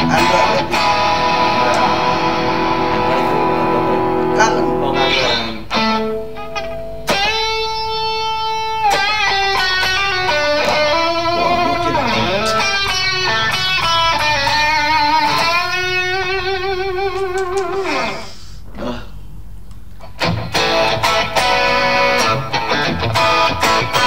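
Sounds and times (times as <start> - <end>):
electric guitar lead line: 0.0 - 18.3, 20.0 - 24.0.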